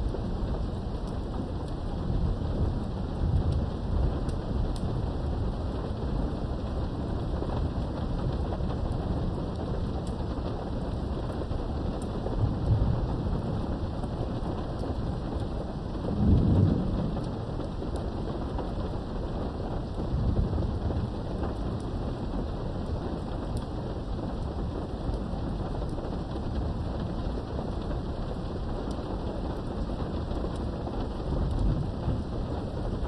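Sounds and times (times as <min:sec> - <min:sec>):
low rolling thunder: 0:00.0 - 0:09.7, 0:10.9 - 0:33.0
steady rain: 0:00.0 - 0:33.0.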